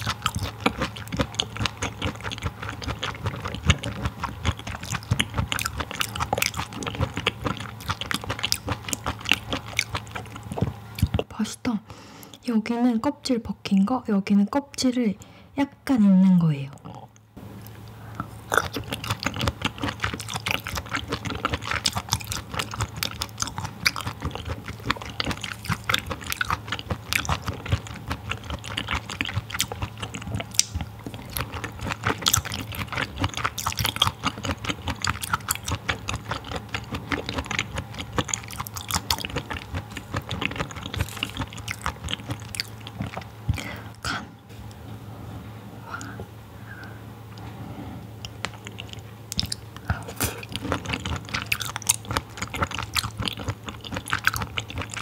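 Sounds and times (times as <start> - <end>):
wet chewing clicks and smacks: 0.0 - 11.3, 16.8 - 43.9, 48.2 - 55.0.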